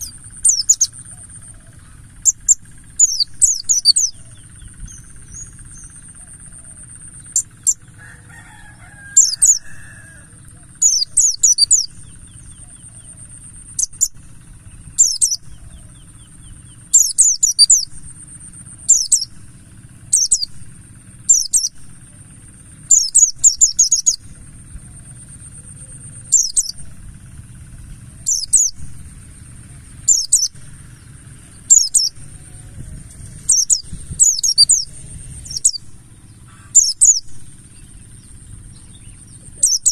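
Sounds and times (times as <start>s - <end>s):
bird chirping: 0.0s - 39.9s
high-pitched whine: 0.0s - 39.9s
low hum: 0.0s - 39.9s.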